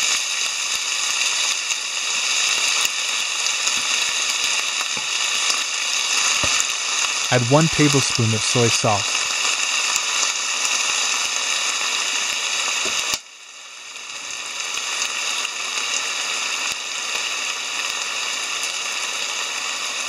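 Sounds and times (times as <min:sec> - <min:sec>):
vegetables sizzling in a frying pan: 0:00.0 - 0:07.3, 0:08.5 - 0:20.0.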